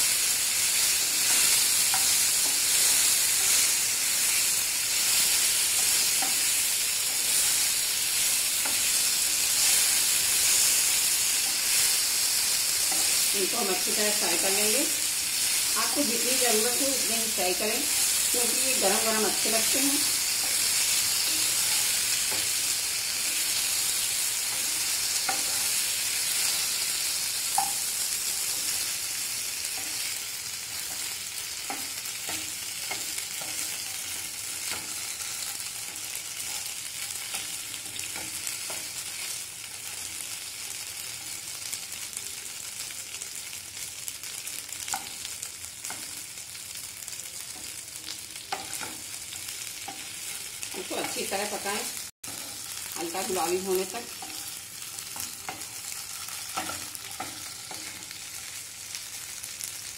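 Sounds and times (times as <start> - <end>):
dumplings sizzling in oil: 0.0 - 59.9.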